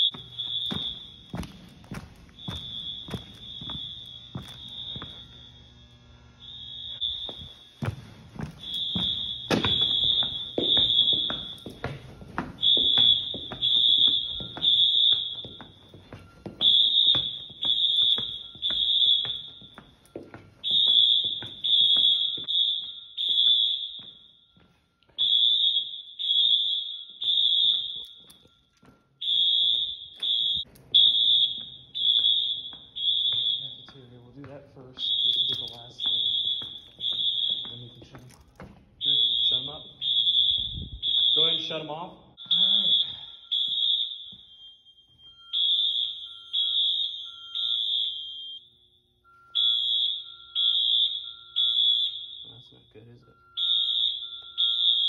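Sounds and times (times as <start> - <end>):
fire alarm horns beeping: 0.0 - 55.0.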